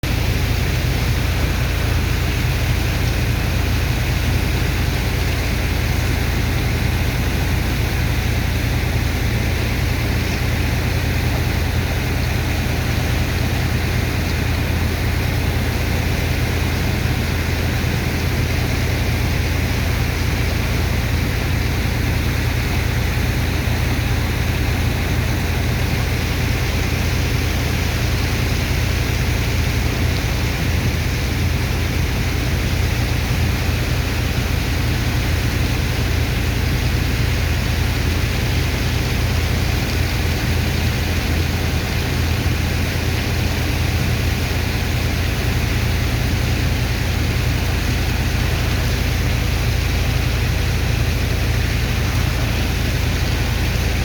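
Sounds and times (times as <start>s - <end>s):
engine and pump drone: 0.0s - 54.0s.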